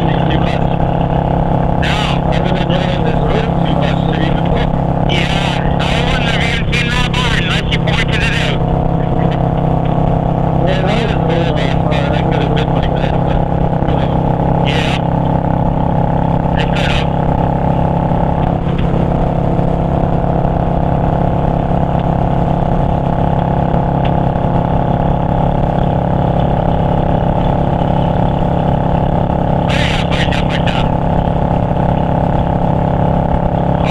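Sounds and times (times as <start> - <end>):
motorcycle engine running: 0.0 - 33.9
road and wind rush: 0.0 - 33.9.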